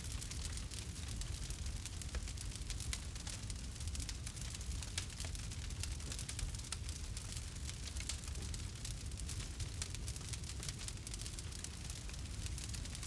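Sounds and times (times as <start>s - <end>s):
campfire crackling: 0.1s - 13.0s.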